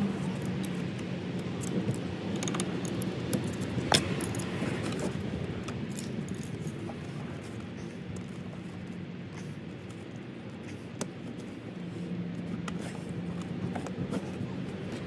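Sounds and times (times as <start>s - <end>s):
rubber hose handling noises: 0.0s - 15.0s
steady low hum: 0.0s - 15.0s.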